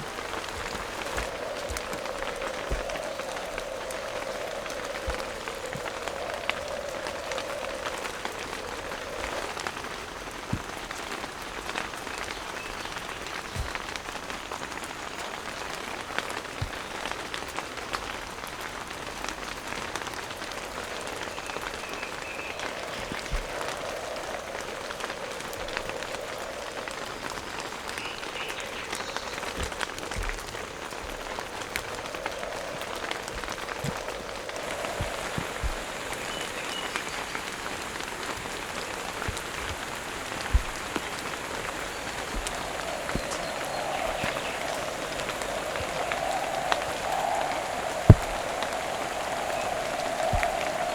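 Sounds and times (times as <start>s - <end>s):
heavy rain falling: 0.0s - 50.9s
raindrops striking close by: 0.0s - 50.9s.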